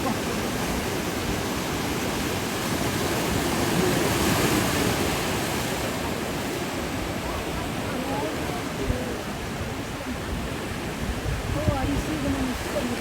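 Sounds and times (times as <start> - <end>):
ocean waves crashing: 0.0 - 13.0.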